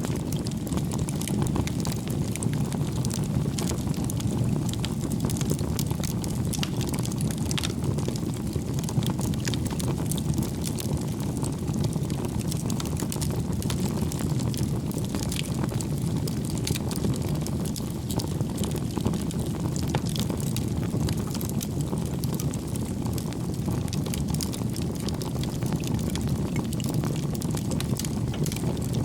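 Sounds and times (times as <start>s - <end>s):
burning logs crackling and popping: 0.0s - 29.0s
low rumble of flames: 0.0s - 29.0s.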